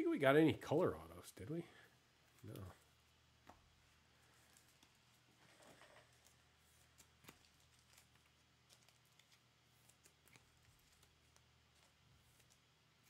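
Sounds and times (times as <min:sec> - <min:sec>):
soft rustle: 0:01.7 - 0:13.0.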